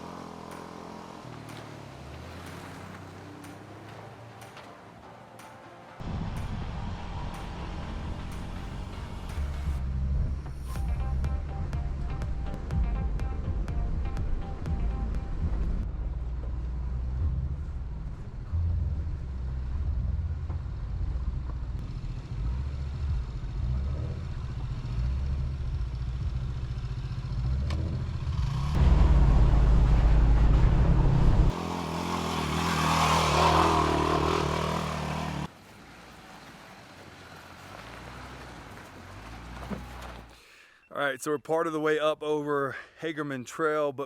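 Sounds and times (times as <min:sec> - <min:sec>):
off-road vehicle engine rumble: 0:00.0 - 0:05.0, 0:06.0 - 0:41.2.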